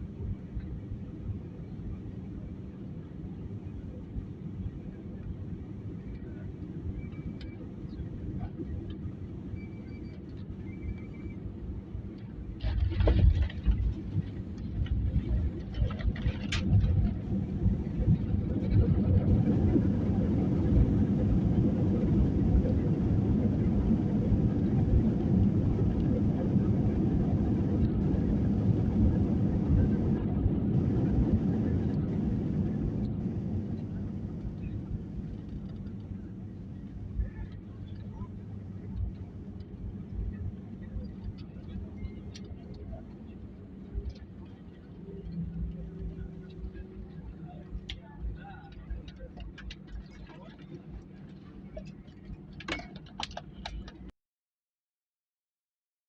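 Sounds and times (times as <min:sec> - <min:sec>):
low vehicle rumble: 0:00.0 - 0:54.1.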